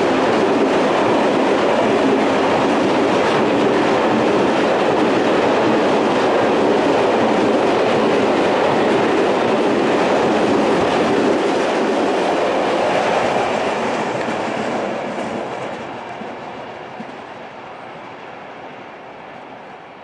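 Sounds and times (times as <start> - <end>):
freight train wheels rolling: 0.0 - 20.0.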